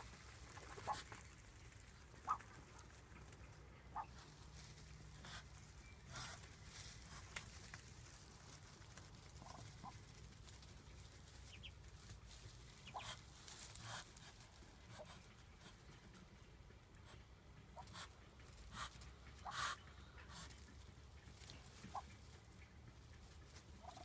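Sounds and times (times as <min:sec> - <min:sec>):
soft duckling calls: 0:00.0 - 0:07.4, 0:08.4 - 0:24.0
rustling in straw: 0:00.0 - 0:16.3, 0:17.8 - 0:24.0.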